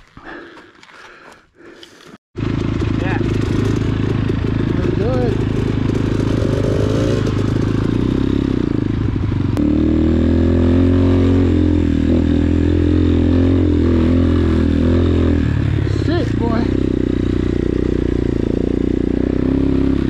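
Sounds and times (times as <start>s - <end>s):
dirt bike engine running: 2.4s - 20.0s.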